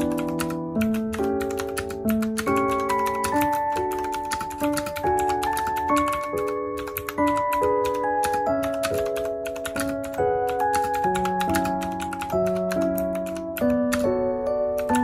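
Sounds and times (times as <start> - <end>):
mechanical keyboard typing: 0.0 - 15.0
soft background music: 0.0 - 15.0.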